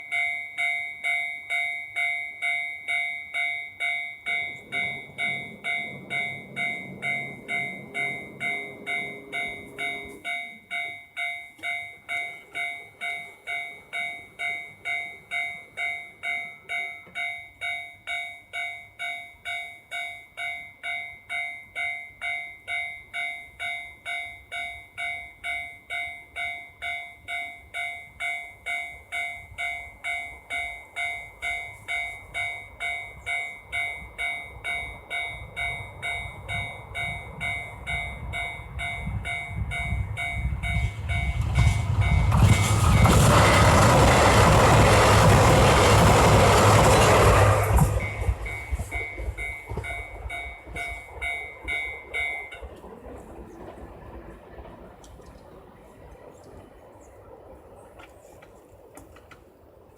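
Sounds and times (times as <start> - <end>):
level crossing warning bell: 0.0 - 53.2
diesel train passing: 2.8 - 59.9.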